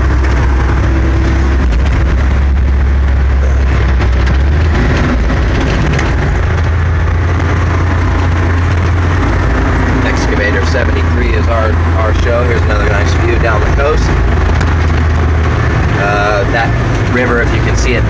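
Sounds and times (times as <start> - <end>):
truck diesel engine drone: 0.0 - 18.0.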